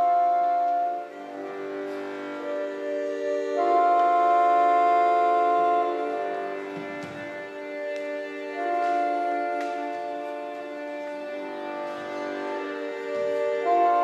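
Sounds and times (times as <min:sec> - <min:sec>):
instrumental music of held chords: 0:00.0 - 0:14.0.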